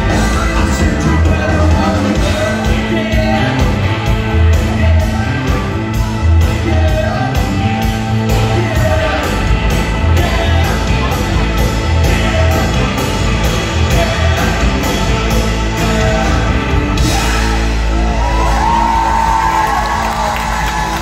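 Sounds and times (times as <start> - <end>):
heavy bass: 0.0 - 21.0
live band music: 0.0 - 21.0
steady drum beat: 0.0 - 21.0.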